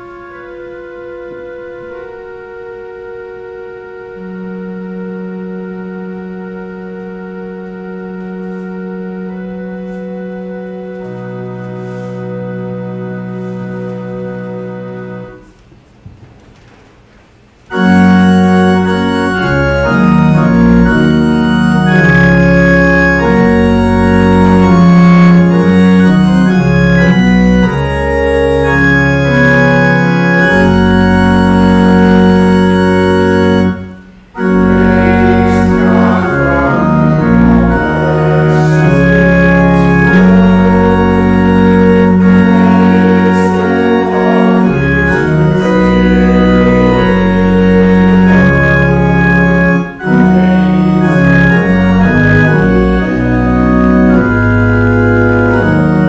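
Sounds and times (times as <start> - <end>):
church organ chords: 0.0 - 16.8, 17.4 - 56.0.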